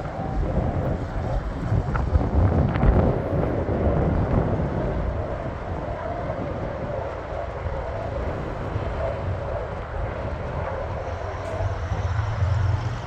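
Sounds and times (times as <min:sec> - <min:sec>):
small plane engine drone: 0:00.0 - 0:13.0
wind buffeting microphone: 0:00.0 - 0:13.0.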